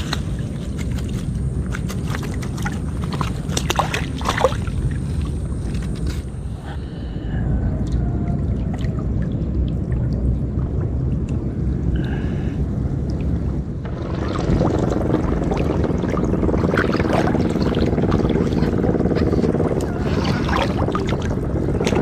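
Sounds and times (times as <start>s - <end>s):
water sloshing and splashing: 0.0s - 6.8s, 7.8s - 12.2s, 12.9s - 22.0s
wind rumble on microphone: 0.0s - 22.0s.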